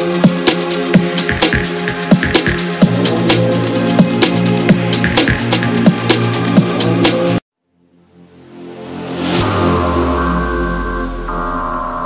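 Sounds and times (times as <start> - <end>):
electronic music with steady beat: 0.0 - 7.4, 9.4 - 12.0.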